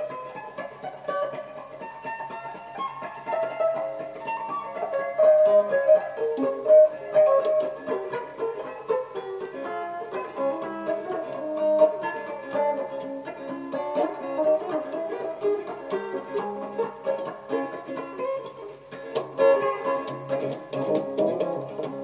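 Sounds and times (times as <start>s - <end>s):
electric guitar picking fast notes: 0.0s - 22.0s.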